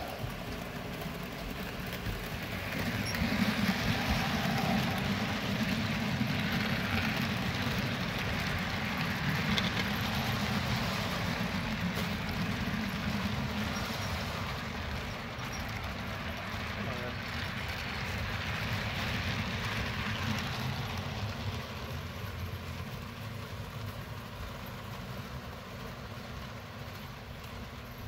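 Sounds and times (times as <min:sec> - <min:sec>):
model train wheels rumbling on rails: 0:00.0 - 0:28.0.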